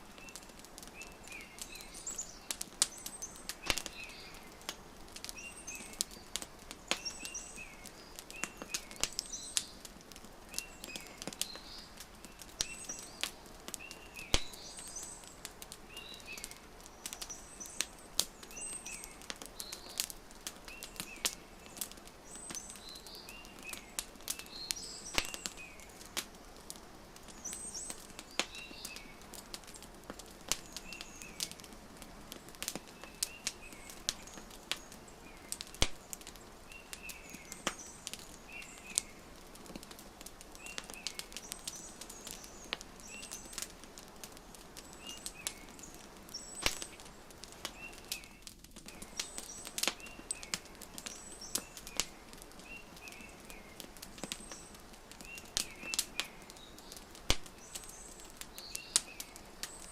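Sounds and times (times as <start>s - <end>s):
small birds chirping: 0.0s - 59.9s
wood fire crackling: 0.0s - 59.9s.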